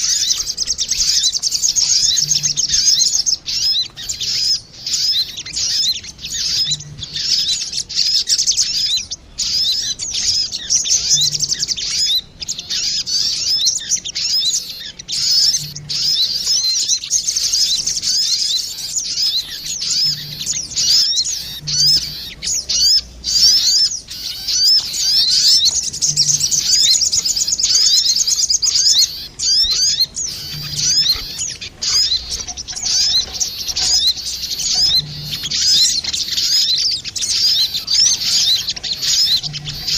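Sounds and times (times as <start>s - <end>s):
birds twittering chirps: 0.0s - 39.9s.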